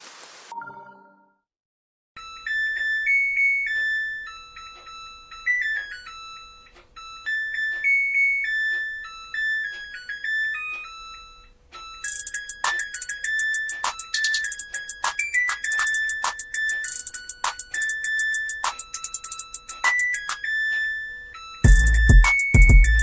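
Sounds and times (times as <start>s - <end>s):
washing machine beeper melody: 0.5s - 1.4s, 2.2s - 11.2s, 12.0s - 23.0s.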